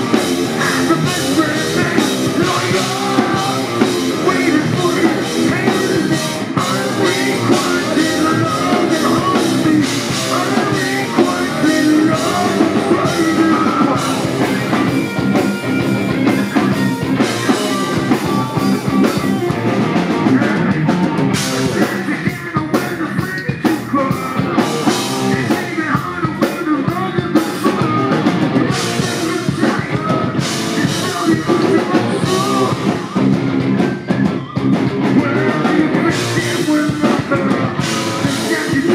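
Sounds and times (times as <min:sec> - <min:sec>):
bass guitar: 0:00.0 - 0:38.9
drum kit: 0:00.0 - 0:38.9
electric guitars: 0:00.0 - 0:38.9
person singing: 0:00.0 - 0:38.9.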